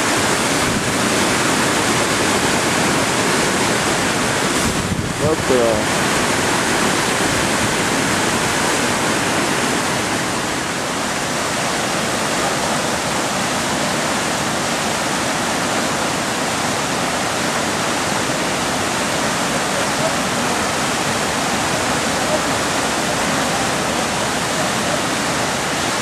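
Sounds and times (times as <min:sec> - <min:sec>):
whitewater roaring over a weir: 0:00.0 - 0:26.0.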